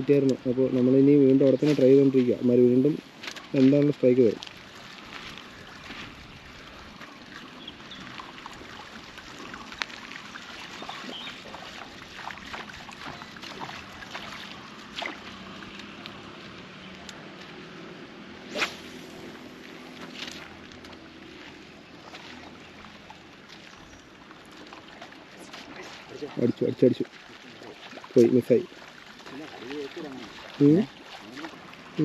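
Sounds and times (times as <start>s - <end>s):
river water trickling: 0.0s - 32.0s.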